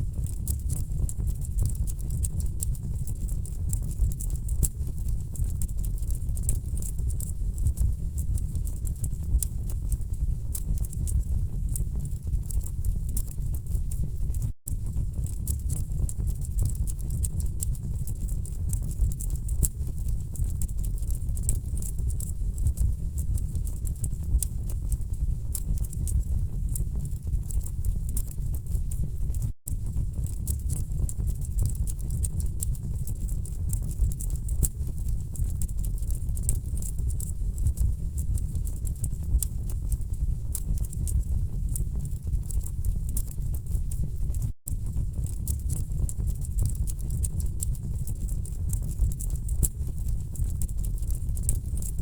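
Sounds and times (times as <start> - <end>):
low rumble of burning logs: 0.0 - 52.0.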